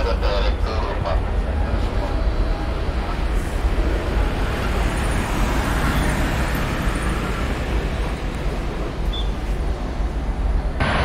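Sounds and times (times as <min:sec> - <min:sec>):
jet engines rumbling at takeoff: 0:00.0 - 0:11.0.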